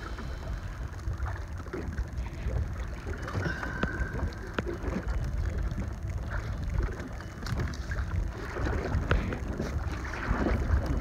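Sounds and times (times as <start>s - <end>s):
water splashes: 0.0s - 11.0s
wind rumbling on microphone: 0.0s - 11.0s.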